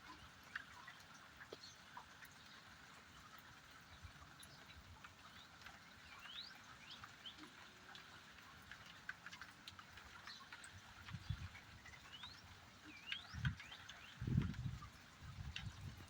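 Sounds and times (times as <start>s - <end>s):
dripping ticks: 0.0s - 16.0s.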